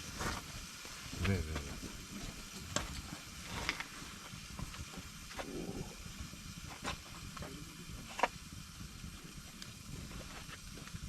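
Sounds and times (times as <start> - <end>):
low steady rumble: 0.0 - 11.0
sharp pops of fire: 0.0 - 11.0
wood fire crackling: 0.0 - 11.0.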